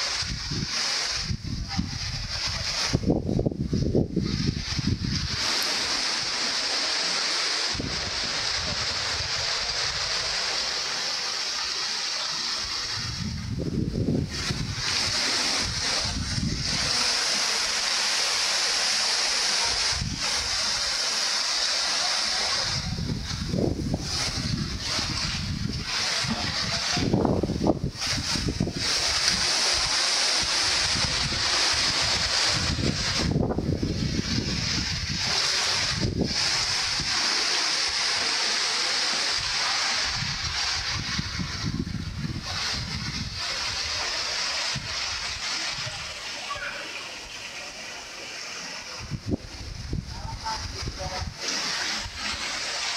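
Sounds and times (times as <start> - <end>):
wind buffeting microphone: 0.0 - 6.4, 7.7 - 10.5, 12.4 - 17.7, 19.6 - 21.1, 22.3 - 37.9, 39.3 - 46.7, 48.8 - 52.5
wind rushing through trees: 0.0 - 52.9.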